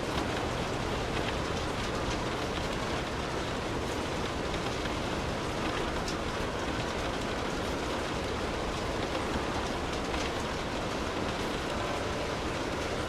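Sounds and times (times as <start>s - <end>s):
raindrop ticks: 0.0s - 13.0s
steady rainfall: 0.0s - 13.0s.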